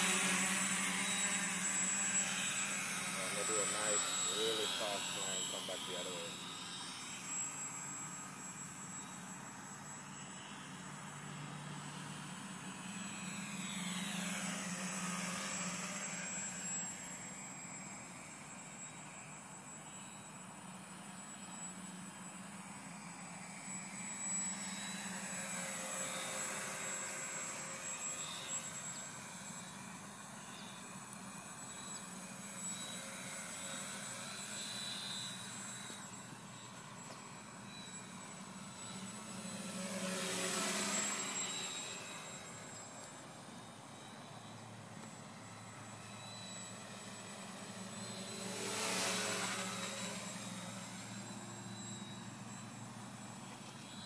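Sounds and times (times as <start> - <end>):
drone motors and propellers buzzing: 0.0 - 54.0.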